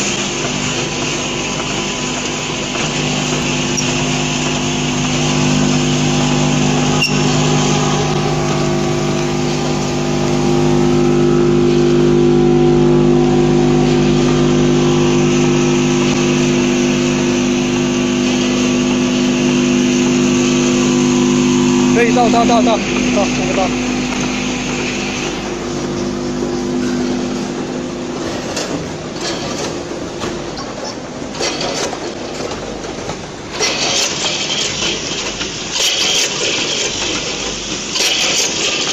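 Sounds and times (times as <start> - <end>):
packing machine humming: 0.0 - 38.9.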